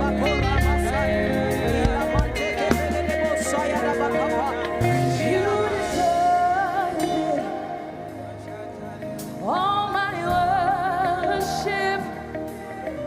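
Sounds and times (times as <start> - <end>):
musical backing: 0.0 - 13.0
person singing gospel: 0.0 - 13.0.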